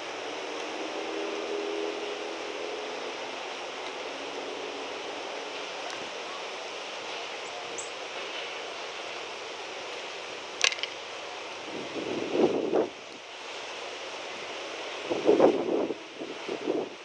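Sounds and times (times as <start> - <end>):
outdoor background hiss: 0.0 - 17.0
wind: 0.0 - 17.0.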